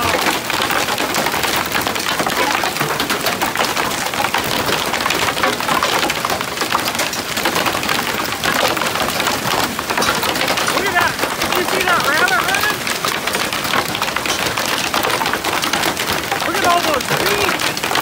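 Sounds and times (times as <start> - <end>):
hail clattering on wooden deck: 0.0 - 18.0.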